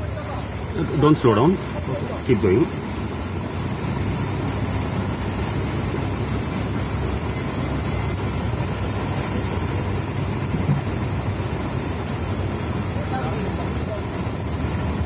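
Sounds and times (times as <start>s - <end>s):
car engine running: 0.0s - 15.0s
water washing against car: 0.0s - 15.0s.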